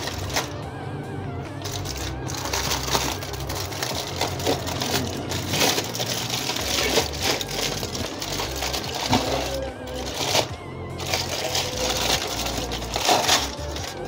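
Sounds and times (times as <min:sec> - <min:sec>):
aluminium foil crinkling: 0:00.0 - 0:00.6, 0:01.6 - 0:14.0.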